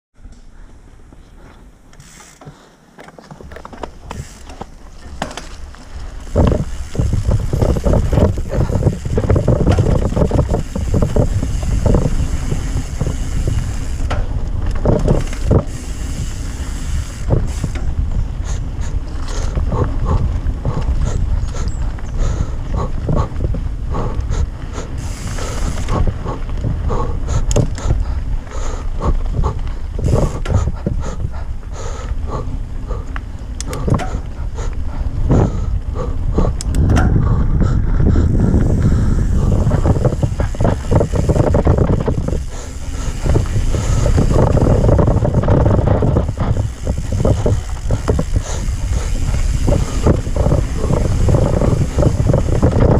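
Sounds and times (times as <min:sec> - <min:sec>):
bike knocking and rattling: 0:00.2 - 0:52.9
bike tyres on dirt: 0:00.2 - 0:52.9
wind buffeting microphone: 0:03.5 - 0:52.9.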